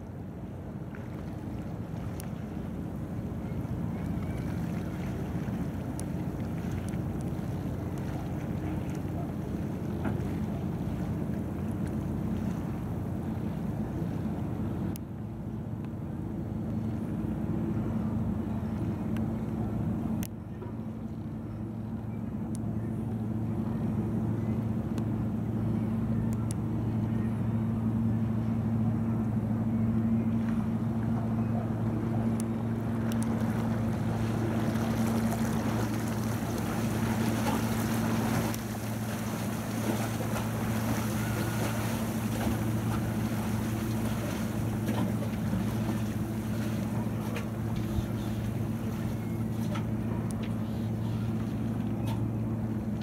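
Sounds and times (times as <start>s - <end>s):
boat diesel engine humming: 0.0s - 53.0s.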